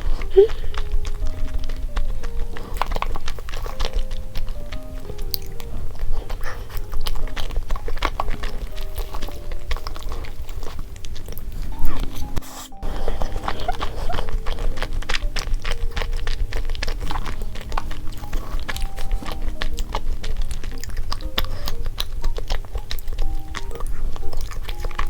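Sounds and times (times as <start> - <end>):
light background music: 0.0 - 25.0
mouth and utensil clicks: 0.0 - 25.0.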